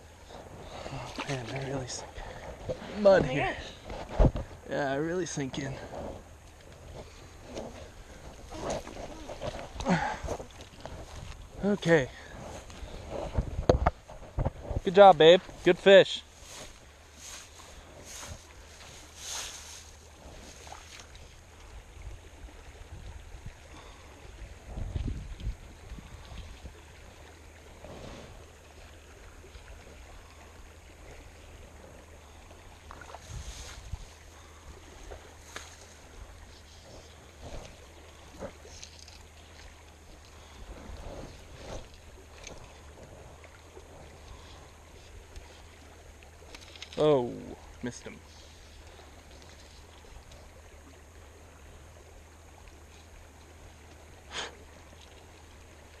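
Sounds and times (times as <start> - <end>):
wind rumbling on microphone: 0.0 - 15.7, 16.3 - 46.5
creek flowing over riffles: 0.0 - 56.0.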